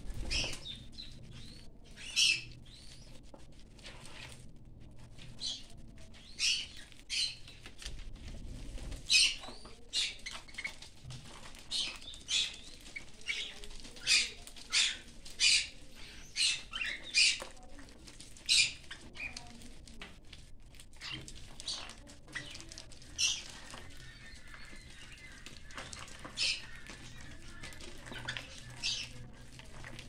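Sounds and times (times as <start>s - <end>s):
cockatiels high-pitched sounds: 0.0s - 4.4s, 5.2s - 8.0s, 8.8s - 19.7s, 21.0s - 30.0s.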